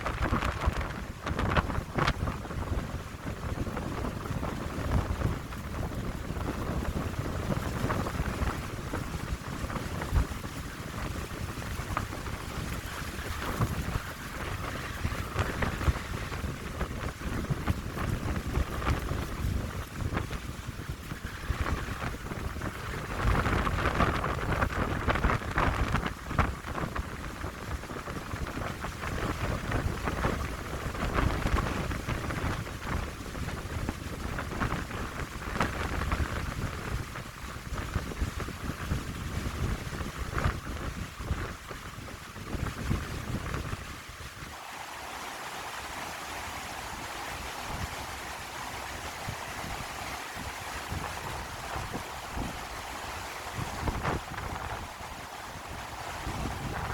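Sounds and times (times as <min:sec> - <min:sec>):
wind buffeting microphone: 0:00.0 - 0:56.9
wind through pine trees: 0:00.0 - 0:56.9.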